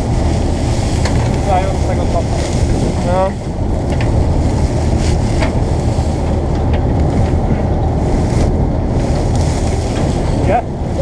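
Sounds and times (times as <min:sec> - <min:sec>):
combine harvester diesel engine: 0:00.0 - 0:11.0
straw rustling: 0:00.1 - 0:11.0.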